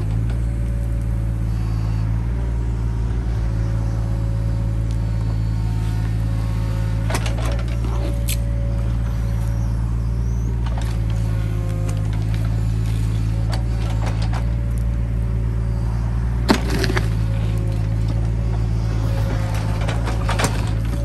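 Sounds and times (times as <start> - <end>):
diesel excavator engine running: 0.0 - 21.0.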